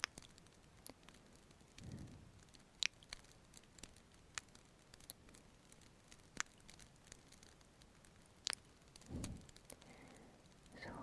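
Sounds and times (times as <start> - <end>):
fireplace fire crackling: 0.0 - 11.0.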